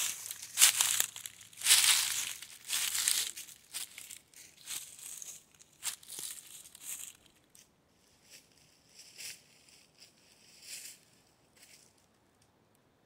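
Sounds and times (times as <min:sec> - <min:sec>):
footsteps crunching dry leaves: 0:00.0 - 0:07.6, 0:08.2 - 0:12.0.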